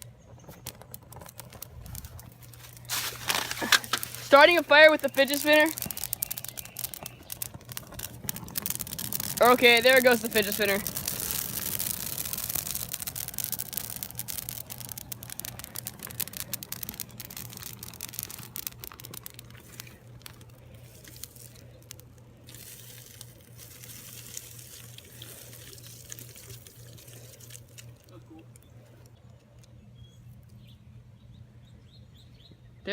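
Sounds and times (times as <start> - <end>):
small fire crackling and popping: 0.0 - 32.2
steady low hum: 0.0 - 32.9.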